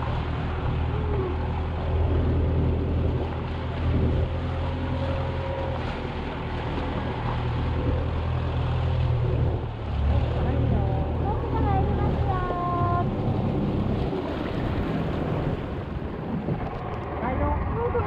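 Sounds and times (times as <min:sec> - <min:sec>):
churning water: 0:00.0 - 0:18.0
motorboat engine humming: 0:00.0 - 0:18.0.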